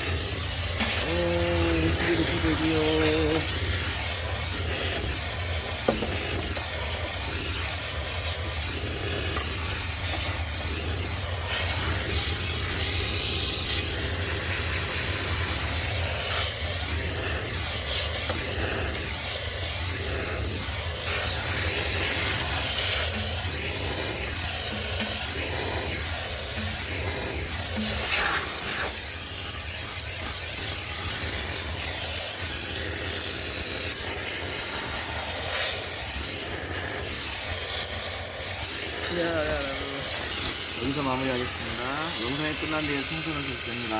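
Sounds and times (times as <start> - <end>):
steam cleaner hissing: 0.0 - 43.9.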